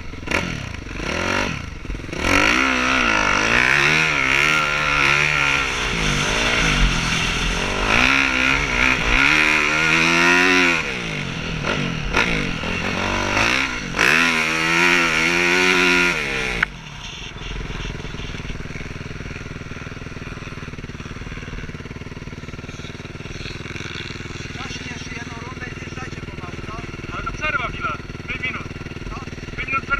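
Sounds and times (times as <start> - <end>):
motorbike engines revving: 0.0 - 29.9
steady engine sound: 0.0 - 29.9.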